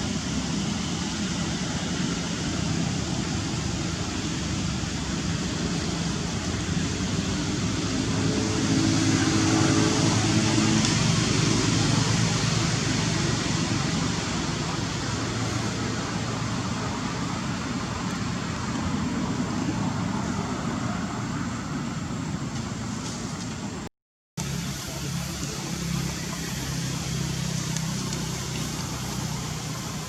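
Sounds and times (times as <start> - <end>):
low engine hum: 0.0 - 30.0
passing road traffic: 0.0 - 30.0.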